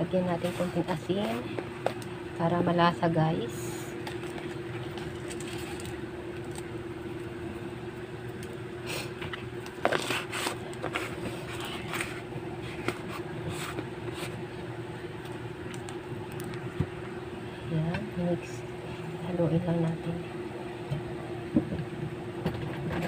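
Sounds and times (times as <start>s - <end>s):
low hum and hiss: 0.0s - 23.0s.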